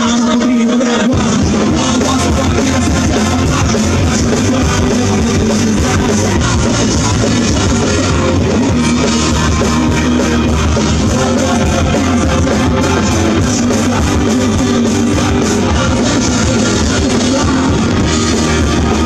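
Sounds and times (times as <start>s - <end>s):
drum kit: 0.0s - 19.0s
electric guitar: 0.0s - 19.0s.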